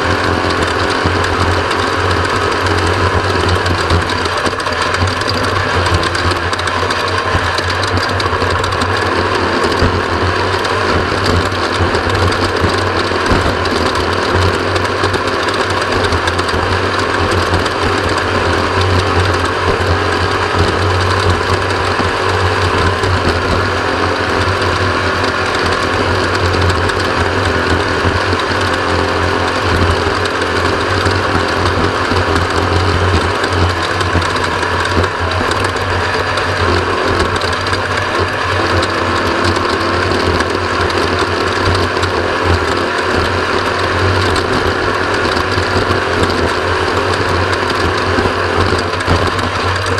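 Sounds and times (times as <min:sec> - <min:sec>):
dense mechanical rattle: 0:00.0 - 0:49.9
vehicle engine running: 0:00.0 - 0:49.9.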